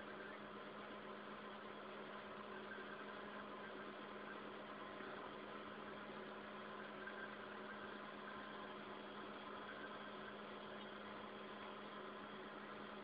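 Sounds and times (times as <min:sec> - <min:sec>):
low equipment hum: 0:00.0 - 0:13.0.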